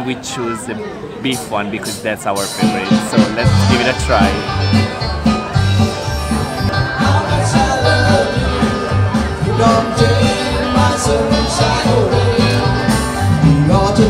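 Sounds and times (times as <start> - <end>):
background music with low beat: 2.6 - 14.0.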